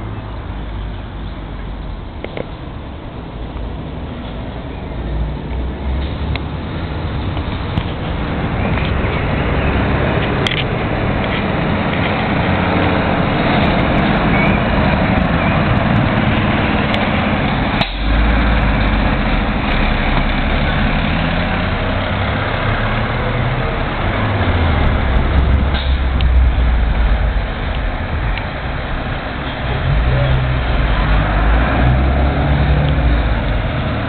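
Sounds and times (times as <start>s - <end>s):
fire engine driving past: 0.0s - 34.0s.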